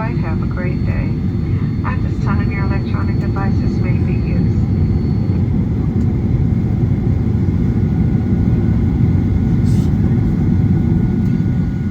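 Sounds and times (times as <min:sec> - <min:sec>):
low airplane cabin rumble: 0:00.0 - 0:11.9.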